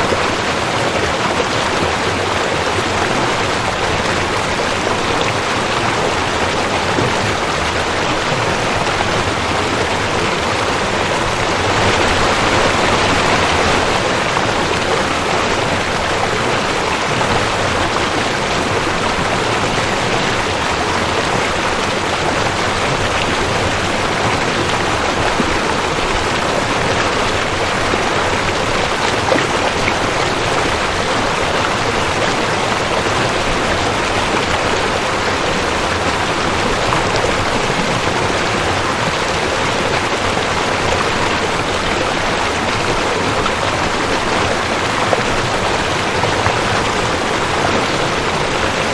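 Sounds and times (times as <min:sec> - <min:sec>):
water rushing over rocks: 0:00.0 - 0:48.9.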